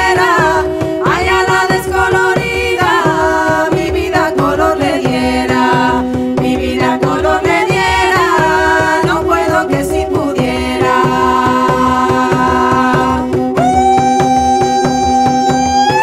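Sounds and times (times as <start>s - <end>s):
frame drum beat: 0.0s - 16.0s
women singing folk song: 0.0s - 16.0s.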